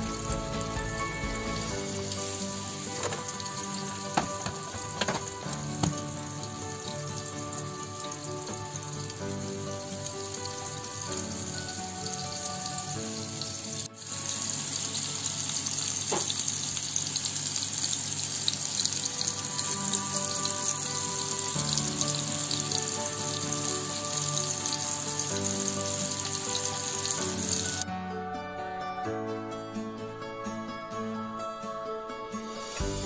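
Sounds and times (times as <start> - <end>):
burger patties sizzling in oil: 0.0 - 27.8.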